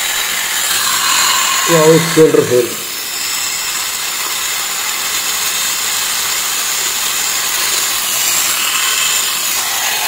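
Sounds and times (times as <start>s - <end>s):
epilator motor whirring: 0.0s - 10.0s.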